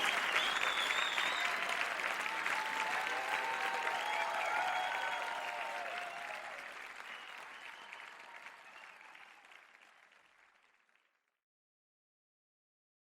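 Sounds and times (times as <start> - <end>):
audience applause: 0.0 - 11.1.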